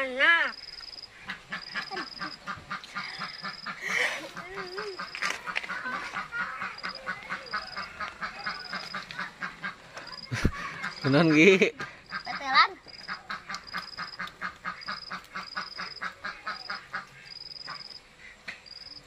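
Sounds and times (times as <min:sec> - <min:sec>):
ducks quacking: 0:01.0 - 0:18.9.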